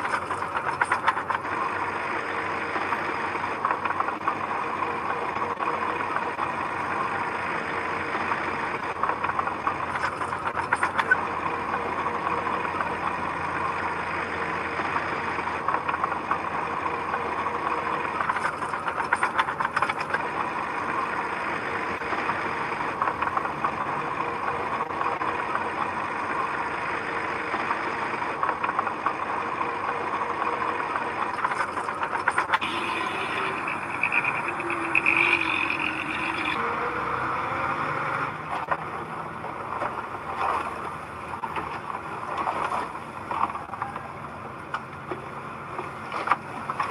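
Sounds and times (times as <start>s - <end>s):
high-pitched whine: 0.0s - 41.4s
diesel engine of heavy machinery: 0.0s - 46.9s.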